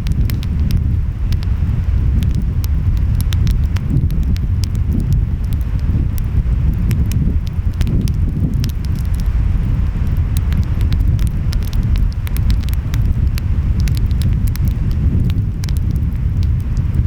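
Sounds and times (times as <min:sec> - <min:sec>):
wind: 0:00.0 - 0:17.0
wood fire crackling: 0:00.0 - 0:17.0.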